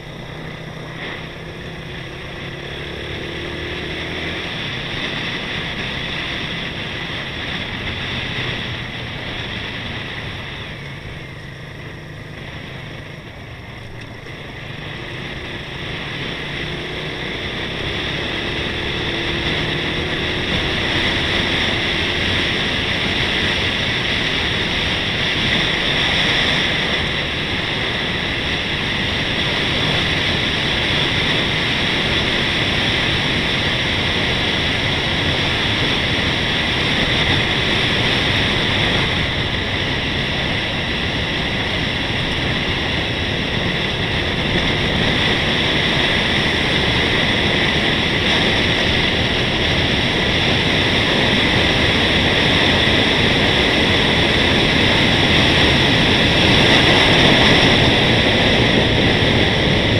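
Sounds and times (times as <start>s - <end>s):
low travel rumble: 0.0s - 59.9s
rushing wind noise: 0.0s - 59.9s.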